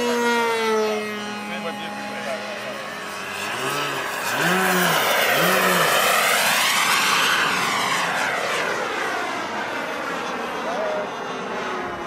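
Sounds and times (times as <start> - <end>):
model jet flying past: 0.0 - 12.0.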